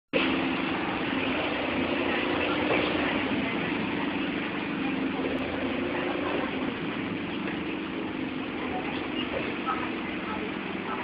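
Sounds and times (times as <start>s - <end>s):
bus engine humming: 0.1s - 11.0s.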